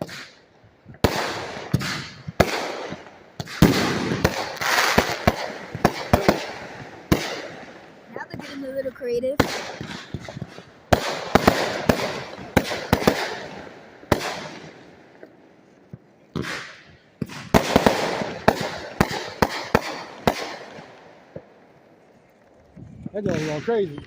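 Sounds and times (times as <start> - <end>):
fireworks banging and crackling: 0.0 - 24.0.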